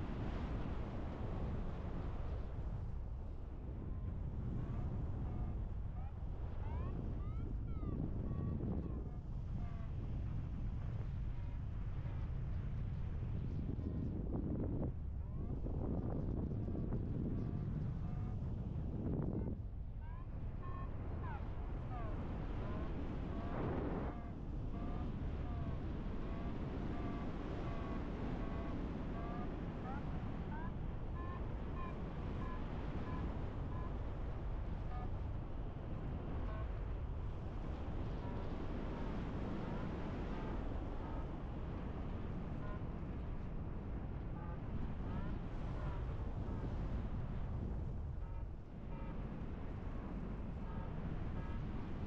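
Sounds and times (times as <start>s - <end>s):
wind over microphone: 0.0s - 52.0s.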